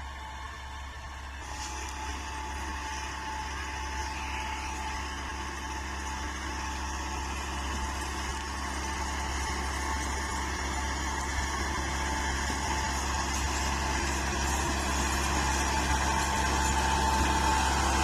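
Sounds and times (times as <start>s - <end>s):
thin steady whine: 0.0s - 18.0s
tractor engine running: 0.0s - 18.0s.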